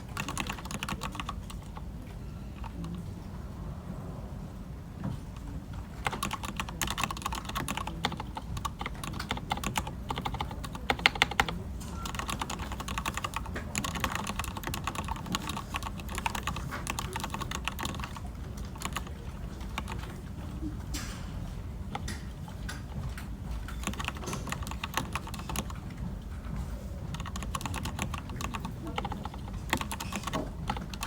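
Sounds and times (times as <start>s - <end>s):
computer keyboard typing: 0.0s - 3.1s, 5.4s - 31.0s
low room hum: 0.0s - 31.0s.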